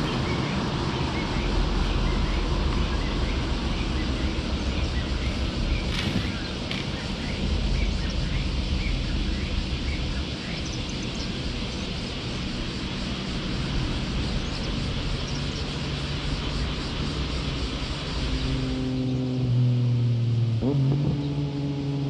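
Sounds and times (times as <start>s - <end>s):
distant engine hum: 0.0s - 22.0s.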